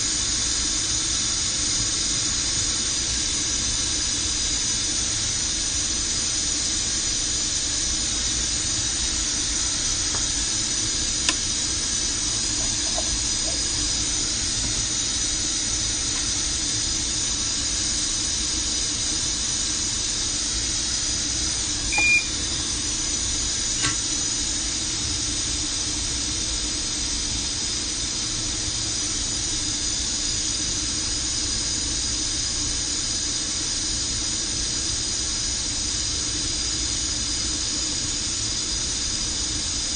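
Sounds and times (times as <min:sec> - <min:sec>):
air hiss from electronics: 0:00.0 - 0:39.9.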